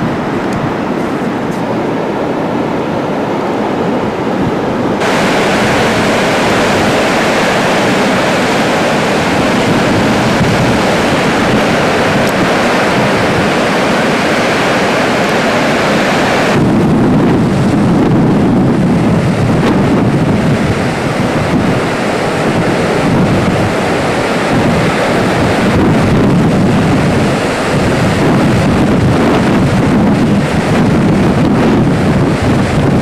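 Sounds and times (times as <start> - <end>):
waterfall rushing: 0.0 - 33.0
wind noise on microphone: 0.0 - 33.0.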